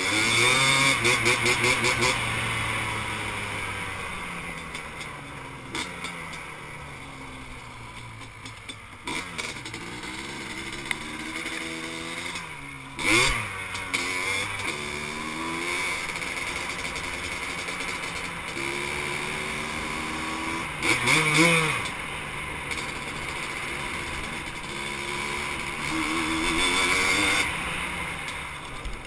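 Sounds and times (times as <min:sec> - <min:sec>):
two-stroke atv engine revving: 0:00.0 - 0:29.0.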